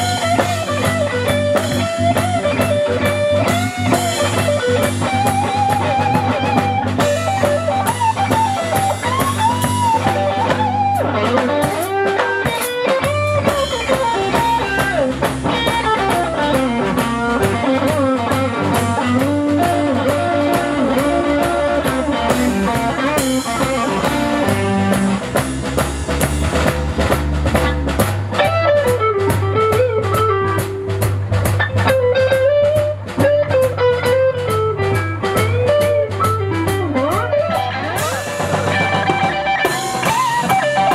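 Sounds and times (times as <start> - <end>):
bass line: 0.0 - 40.9
drum kit: 0.0 - 40.9
electric guitar lead: 0.0 - 40.9.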